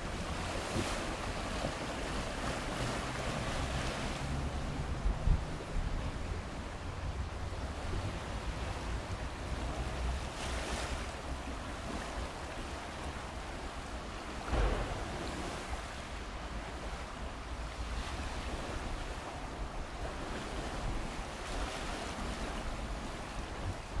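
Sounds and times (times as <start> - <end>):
stream rushing: 0.0 - 24.0
wind rumbling on microphone: 0.0 - 24.0.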